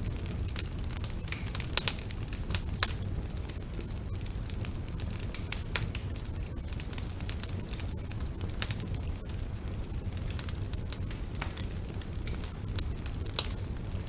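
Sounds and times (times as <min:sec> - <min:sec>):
fire crackles and pops: 0:00.0 - 0:14.0
low rumble of flames: 0:00.0 - 0:14.0.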